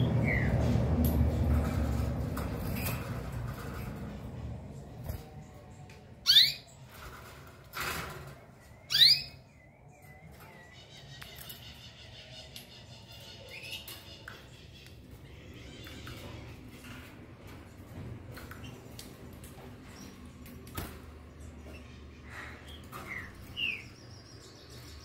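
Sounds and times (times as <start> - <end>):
canaries chirping: 0.0 - 25.0.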